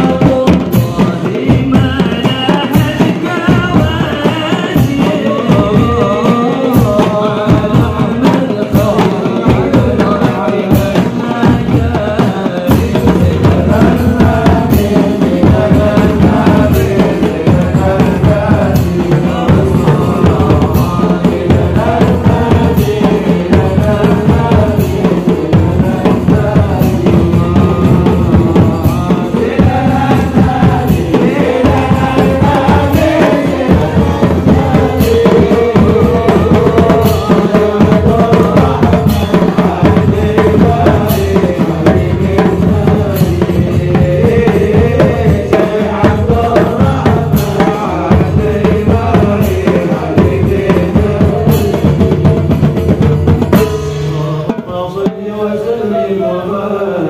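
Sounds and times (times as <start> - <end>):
marching drum band: 0.0 - 57.0
voices singing: 0.0 - 57.0.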